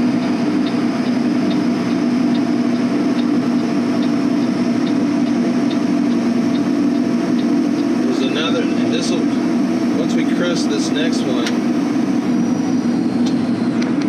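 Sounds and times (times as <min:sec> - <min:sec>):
faint ticking: 0:00.0 - 0:11.6
diesel truck engine drone: 0:00.0 - 0:14.0.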